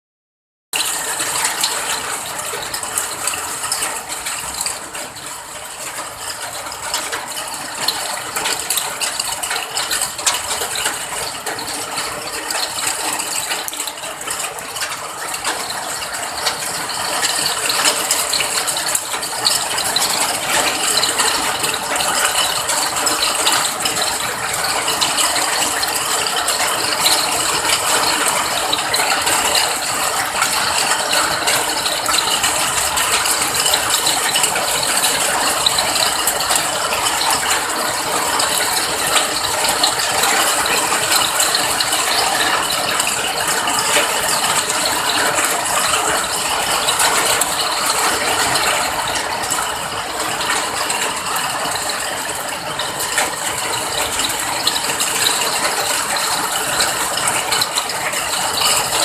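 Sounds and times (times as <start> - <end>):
steady rain falling: 0.8 - 59.0.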